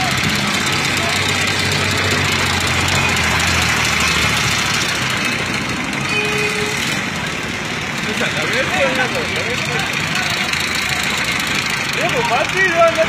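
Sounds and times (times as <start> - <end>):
road noise: 0.0 - 13.0
vehicle engines idling: 0.0 - 13.0.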